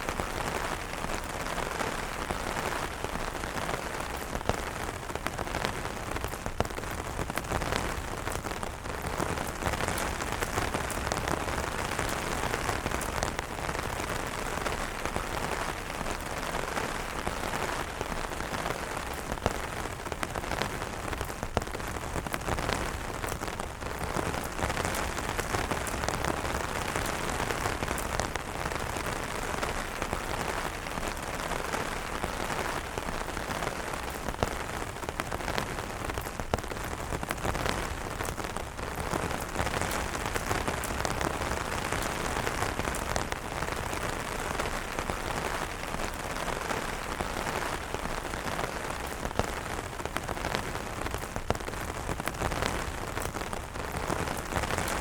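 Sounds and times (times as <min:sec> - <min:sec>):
rain falling on umbrellas: 0:00.0 - 0:55.0.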